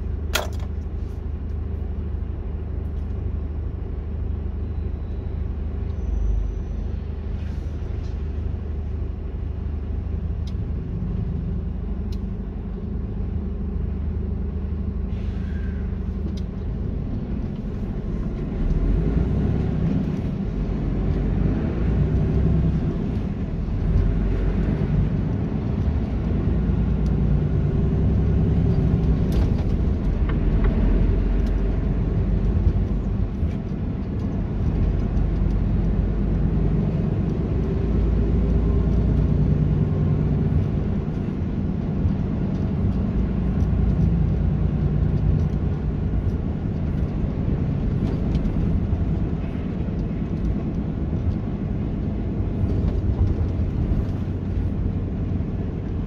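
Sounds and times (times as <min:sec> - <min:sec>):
road rumble: 0:00.0 - 0:56.0
truck engine drone: 0:00.0 - 0:56.0.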